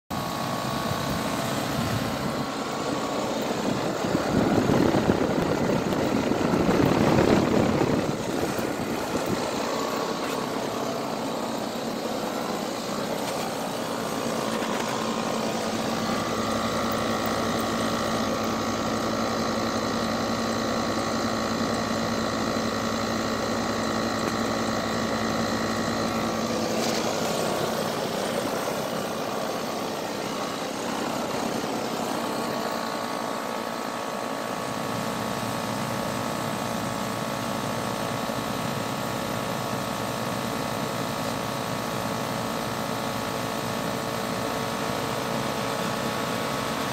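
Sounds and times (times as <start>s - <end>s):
air conditioner fan humming: 0.1s - 46.9s.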